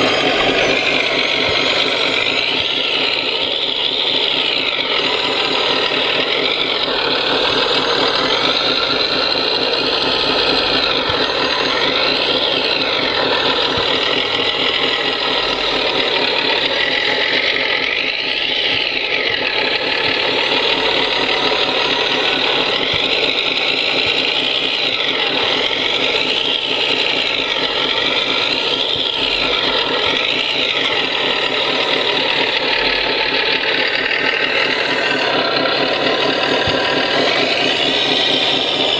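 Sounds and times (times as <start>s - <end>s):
electric drive whine: 0.0s - 38.9s
simulated diesel engine sound: 0.0s - 38.9s.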